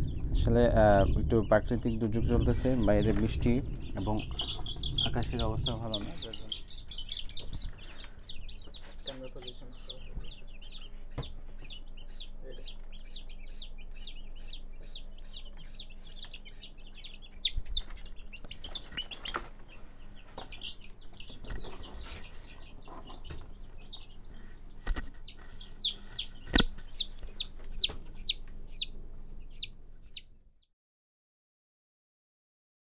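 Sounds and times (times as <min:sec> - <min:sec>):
chicks peeping: 0:00.0 - 0:30.6.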